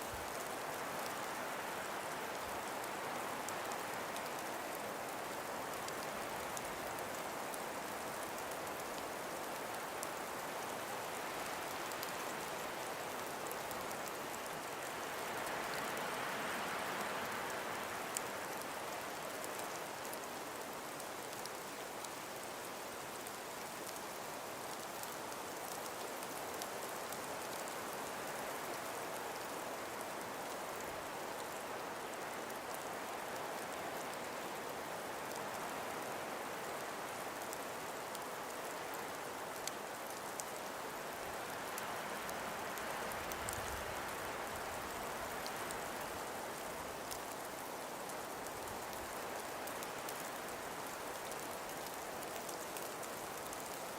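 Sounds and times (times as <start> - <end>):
breeze through trees: 0.0 - 53.9
faint tiny ticks: 0.0 - 53.9.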